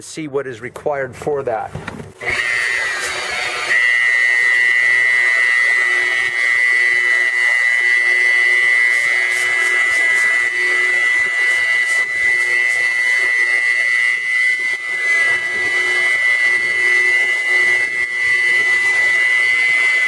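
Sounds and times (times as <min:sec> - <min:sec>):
electric polisher motor whine: 0:02.2 - 0:20.0.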